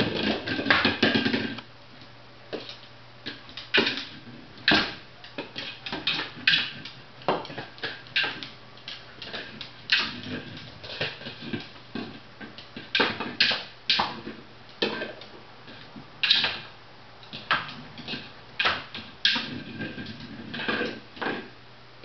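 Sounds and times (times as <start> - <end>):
dog claws clicking on tiles: 2.5 - 21.4.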